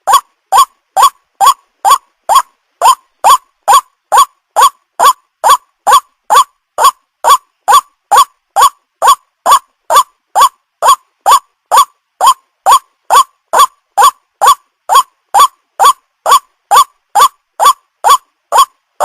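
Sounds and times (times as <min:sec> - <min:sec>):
waterhen call: 0:00.0 - 0:18.8.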